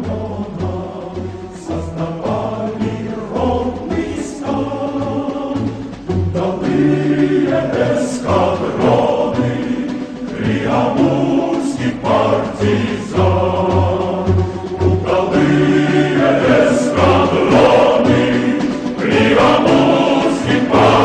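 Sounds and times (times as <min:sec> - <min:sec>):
choir singing with instruments: 0:00.0 - 0:21.0.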